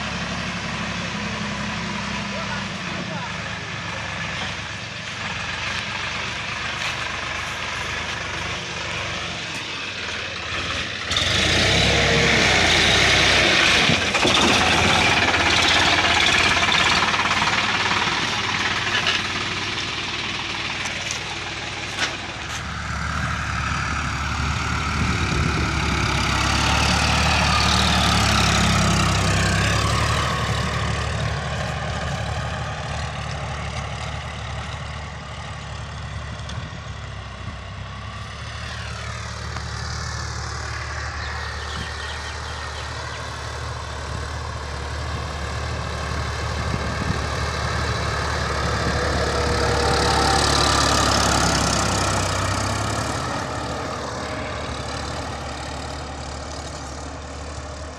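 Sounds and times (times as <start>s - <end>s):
tractor diesel engine: 0.0s - 57.9s.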